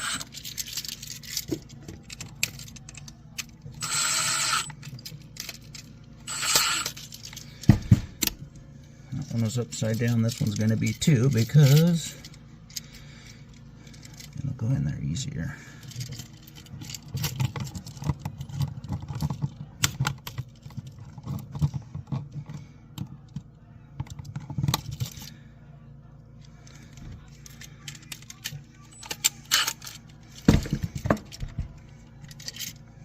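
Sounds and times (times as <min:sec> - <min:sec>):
hand tools clicking and rattling: 0:00.0 - 0:08.4, 0:09.2 - 0:14.4, 0:15.8 - 0:23.4, 0:26.7 - 0:32.9.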